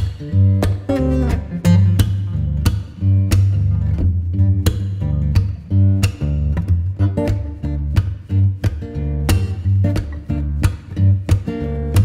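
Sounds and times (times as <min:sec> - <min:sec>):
plucked guitar notes: 0:00.0 - 0:12.0
steady bass line: 0:00.0 - 0:12.0.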